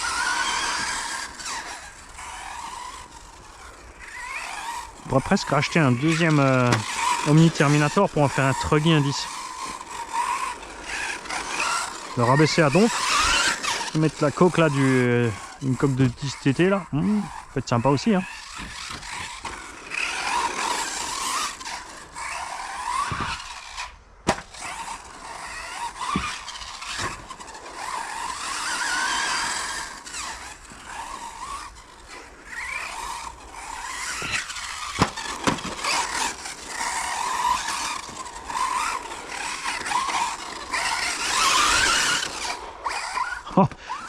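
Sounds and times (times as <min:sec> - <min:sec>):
electric motor whining: 0:00.0 - 0:44.0
tyres squealing on carpet: 0:00.0 - 0:44.0.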